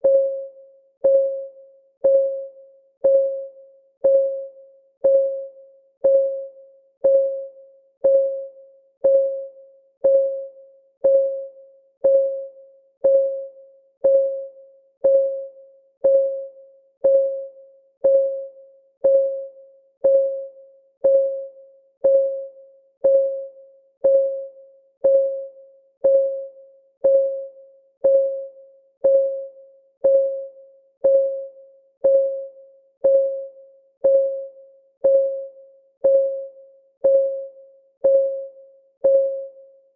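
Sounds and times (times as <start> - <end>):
timer ticking: 1.0 - 39.6.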